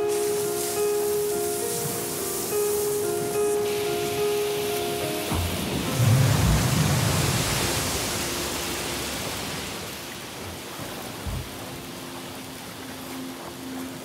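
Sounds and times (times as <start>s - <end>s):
ocean surf crashing on shore: 0.0s - 14.0s.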